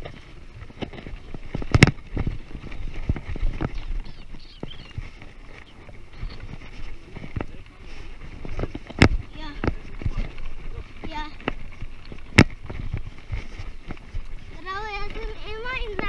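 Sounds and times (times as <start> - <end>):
bike rattling and knocking: 0.0 - 16.0.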